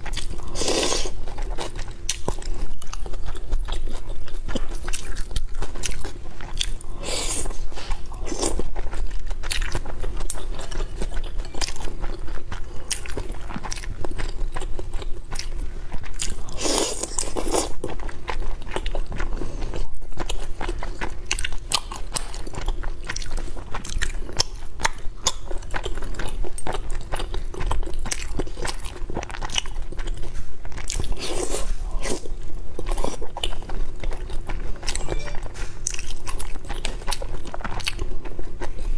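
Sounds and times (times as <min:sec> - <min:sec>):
close chewing and crunching: 0:00.0 - 0:38.9.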